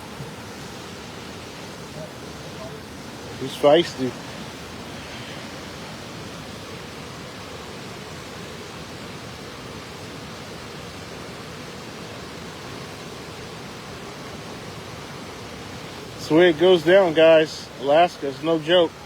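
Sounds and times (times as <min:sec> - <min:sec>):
river waterfall rushing: 0:00.0 - 0:19.0.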